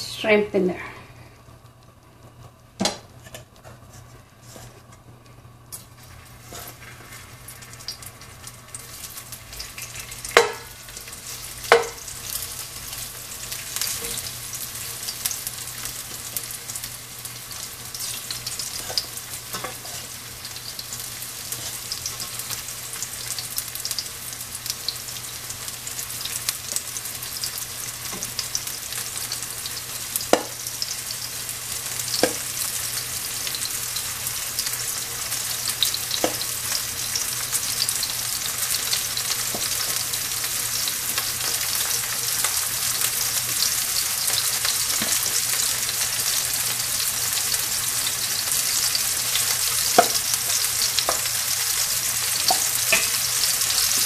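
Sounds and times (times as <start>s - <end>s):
shrimp sizzling in hot oil: 5.7s - 54.0s.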